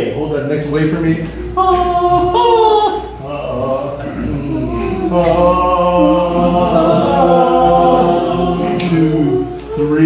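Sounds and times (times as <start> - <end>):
male chorus singing a cappella: 1.6 - 10.0.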